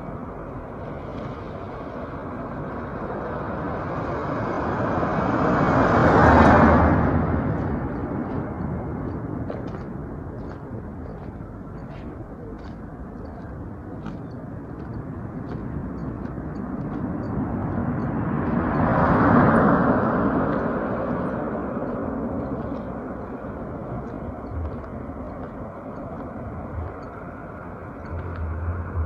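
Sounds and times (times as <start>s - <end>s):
road vehicle passing: 0.0s - 29.0s
street noise: 0.0s - 29.0s.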